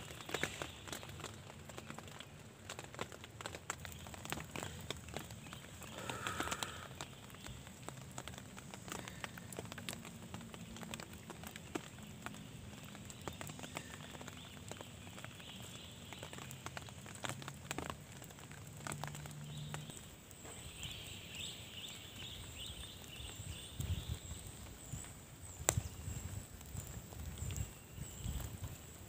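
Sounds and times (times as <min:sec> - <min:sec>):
rain drops on foliage: 0:00.0 - 0:29.0.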